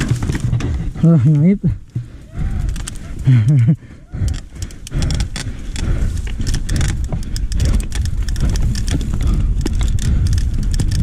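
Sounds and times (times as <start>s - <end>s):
bike clicking and rattling: 0.0s - 11.0s
low rumble of tyres: 2.0s - 11.0s.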